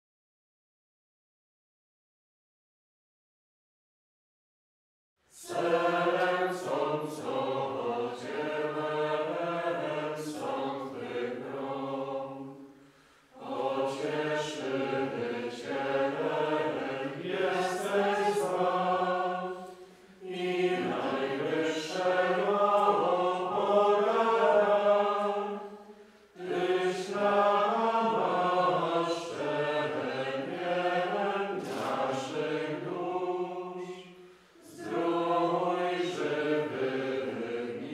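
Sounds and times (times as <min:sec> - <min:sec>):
voices singing a chant: 0:05.3 - 0:37.9.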